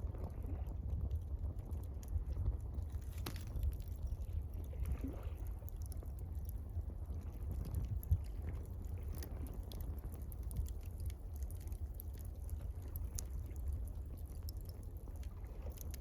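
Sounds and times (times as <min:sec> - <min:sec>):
campfire crackling and popping: 0:00.0 - 0:16.0
steady low rumble: 0:00.0 - 0:16.0
water lapping against shore: 0:02.8 - 0:16.0.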